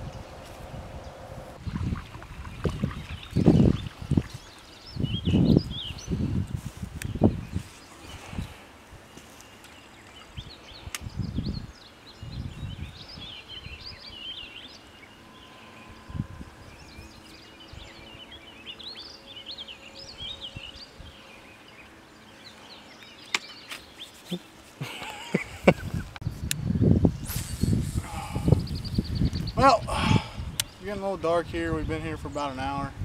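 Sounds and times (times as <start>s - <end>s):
low outdoor background: 0.0s - 33.0s
songbirds chirping and warbling: 0.0s - 33.0s.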